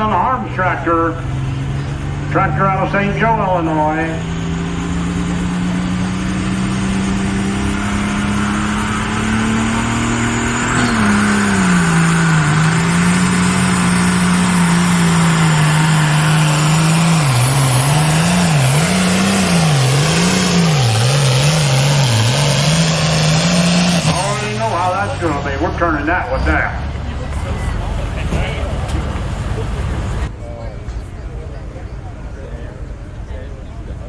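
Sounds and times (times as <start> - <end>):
tractor engine under load: 0.0 - 30.3.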